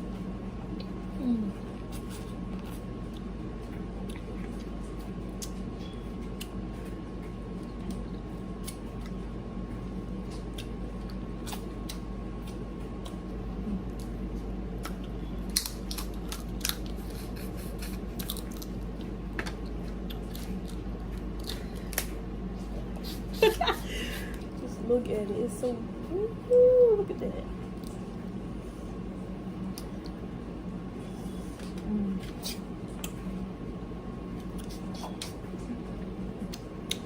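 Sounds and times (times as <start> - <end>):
steady low hum: 0.0 - 37.0
person chewing and crunching food: 0.7 - 24.6, 29.6 - 30.3, 30.9 - 33.5, 34.2 - 37.0.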